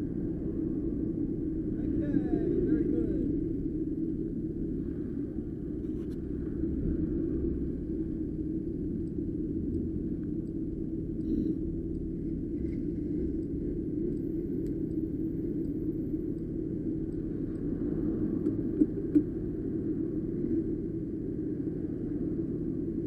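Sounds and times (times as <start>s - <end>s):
road noise: 0.0s - 23.0s.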